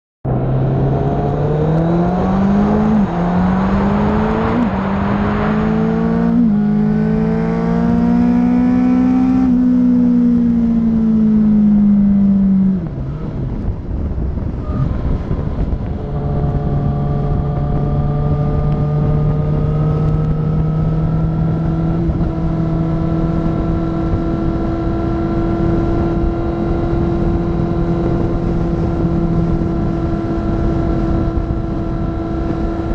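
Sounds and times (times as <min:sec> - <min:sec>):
vehicle engine accelerating: 0:00.3 - 0:32.9
wind rushing: 0:00.3 - 0:32.9.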